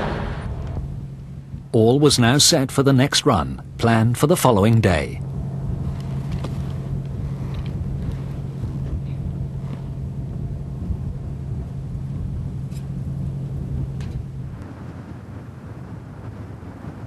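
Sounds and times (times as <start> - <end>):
diesel engine running: 0.0 - 16.2.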